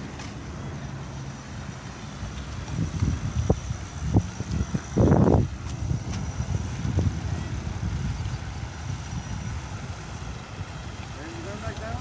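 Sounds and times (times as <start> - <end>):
wind buffeting microphone: 2.1 - 12.0.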